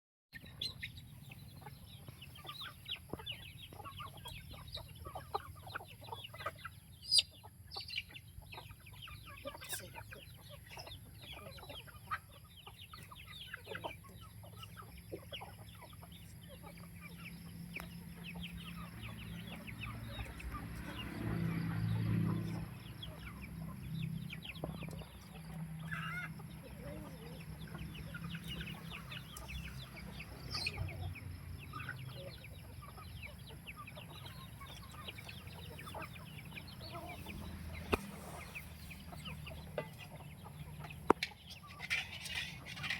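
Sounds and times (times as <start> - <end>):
chickens clucking: 0.4 - 42.9.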